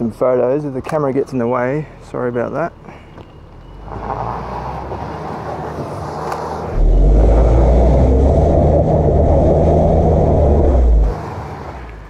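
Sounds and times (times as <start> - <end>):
car engine driving off-road: 2.1 - 12.0.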